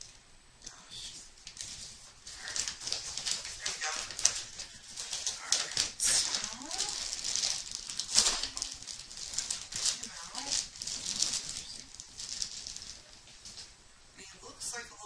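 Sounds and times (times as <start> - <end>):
plastic wrapping crinkling and tearing: 0.0 - 13.7.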